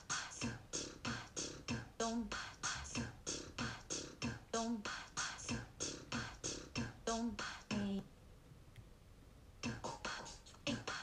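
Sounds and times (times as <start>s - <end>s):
synthesized voice beatboxing: 0.0s - 8.0s, 9.6s - 11.0s.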